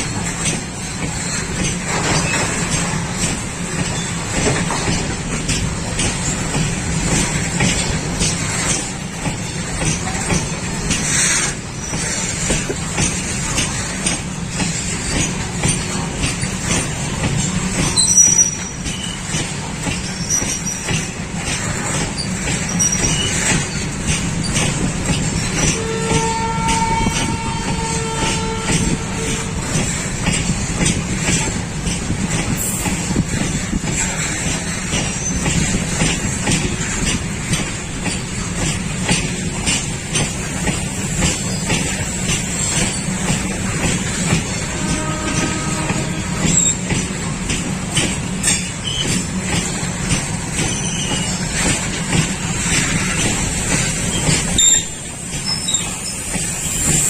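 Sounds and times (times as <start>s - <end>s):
train rumble: 0.0s - 57.0s
train wheels clattering on rails: 0.0s - 57.0s.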